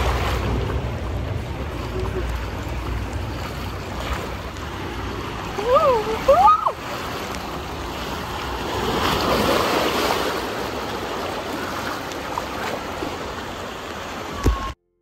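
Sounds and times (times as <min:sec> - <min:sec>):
water rushing and splashing: 0:00.0 - 0:14.8.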